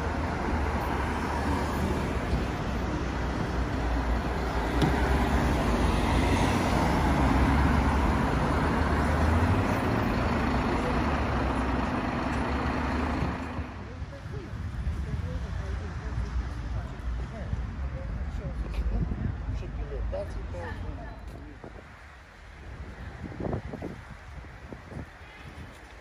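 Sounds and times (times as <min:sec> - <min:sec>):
city traffic passing: 0:00.0 - 0:26.0.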